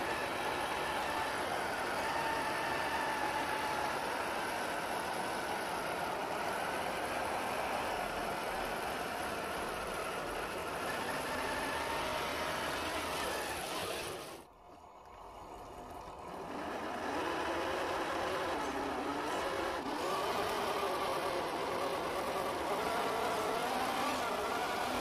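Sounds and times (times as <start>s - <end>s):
tyres churning through mud: 0.0s - 14.5s, 15.2s - 25.0s.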